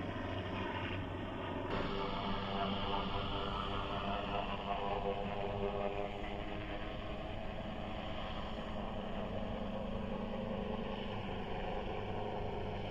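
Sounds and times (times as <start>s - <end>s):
distant helicopter drone: 0.0s - 12.9s.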